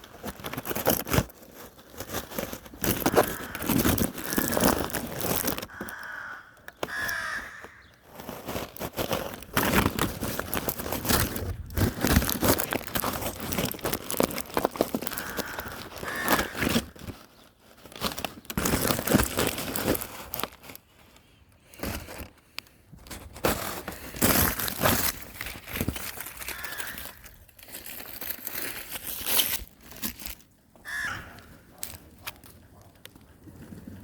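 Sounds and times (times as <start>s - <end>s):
crinkling and rustling: 0.0s - 34.0s.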